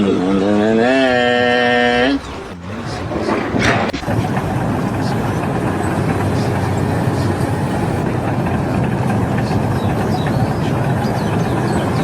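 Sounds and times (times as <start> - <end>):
heavy machinery rumble: 0.0 - 12.0.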